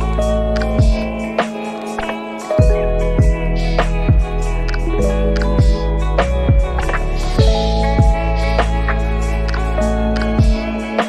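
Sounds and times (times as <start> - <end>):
sustained music notes: 0.0 - 11.0
deep thudding beat: 0.5 - 1.2, 2.6 - 11.0.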